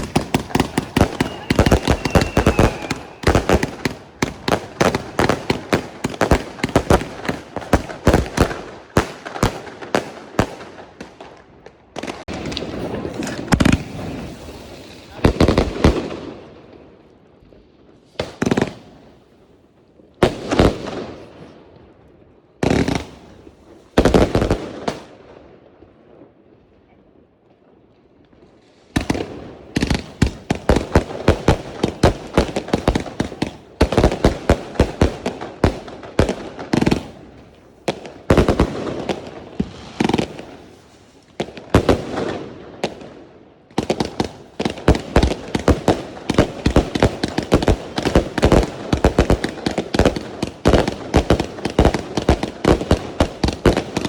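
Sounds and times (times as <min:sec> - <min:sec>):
fireworks bangs and cracks: 0:00.0 - 0:26.9, 0:27.5 - 0:54.0.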